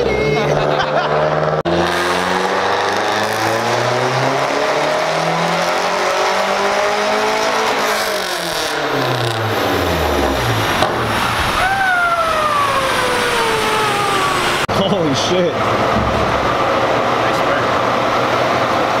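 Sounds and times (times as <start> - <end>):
car engine revving at full throttle: 0.0 - 14.7, 15.4 - 19.0.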